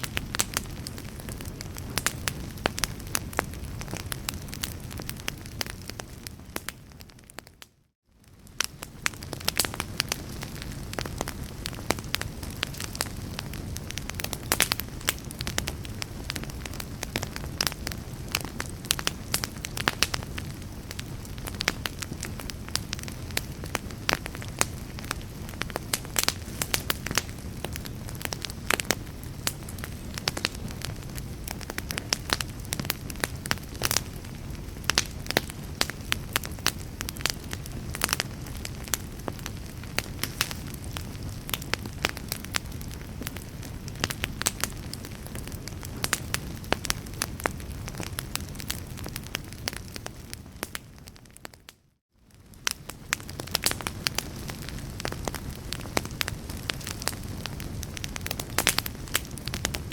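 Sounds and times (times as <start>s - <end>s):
crackles and pops of burning logs: 0.0s - 59.9s
fire low rumble: 0.0s - 59.9s.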